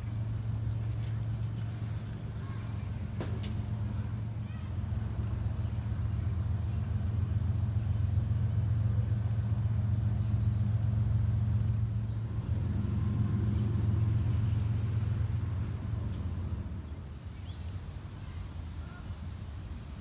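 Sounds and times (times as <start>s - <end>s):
vehicle rumbling: 0.0s - 20.0s.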